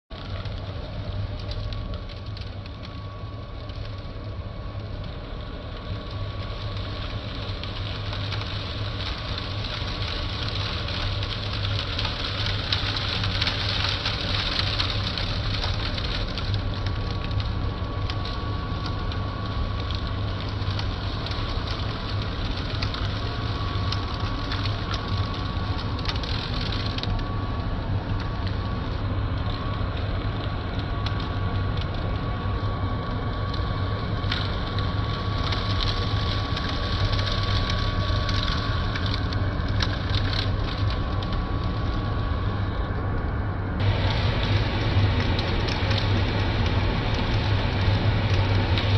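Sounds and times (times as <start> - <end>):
debris crackling in vacuum: 0.1 - 48.9.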